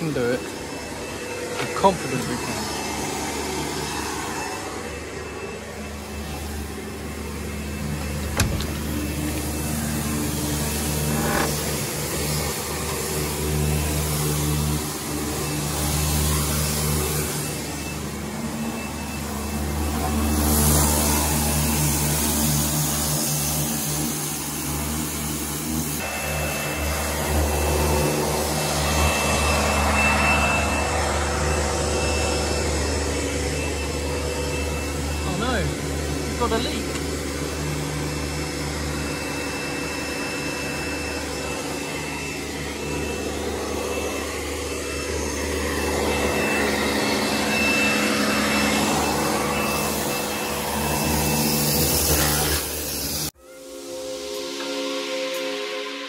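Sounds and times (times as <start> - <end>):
pressure washer motor drone: 0.0 - 56.0
thin high whine: 0.0 - 56.0.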